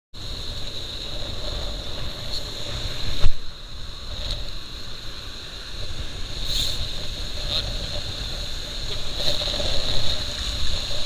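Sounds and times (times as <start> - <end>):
thin high whine: 0.2 - 11.0
wind buffeting microphone: 0.2 - 11.0.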